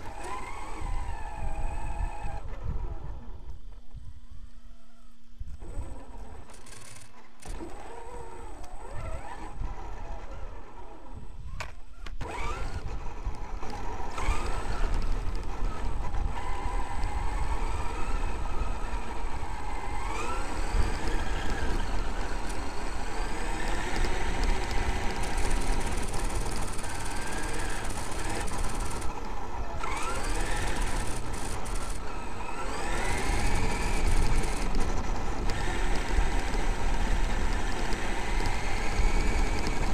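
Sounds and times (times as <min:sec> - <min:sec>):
electric motor whining: 0:00.0 - 0:03.7, 0:05.6 - 0:39.9.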